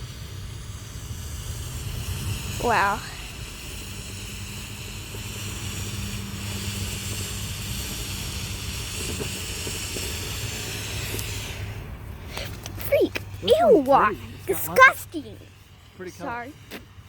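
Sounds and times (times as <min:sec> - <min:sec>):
firework hissing sparks: 0:00.0 - 0:17.0.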